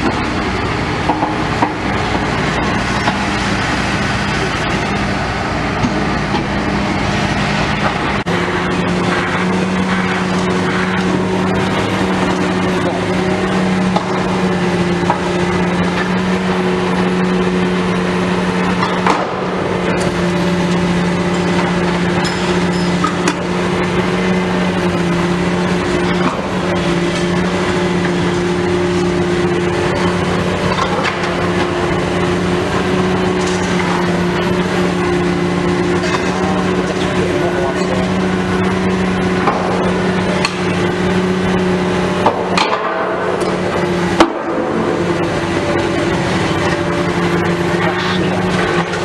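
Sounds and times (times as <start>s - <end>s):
demolition machine engine hum: 0.0s - 49.0s.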